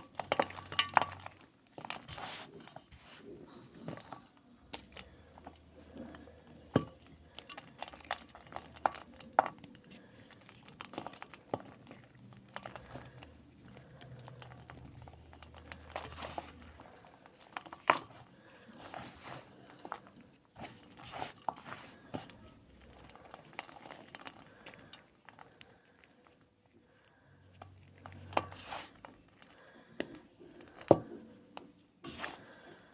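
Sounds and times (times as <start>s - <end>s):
chalk ball crunching: 0.0s - 32.9s.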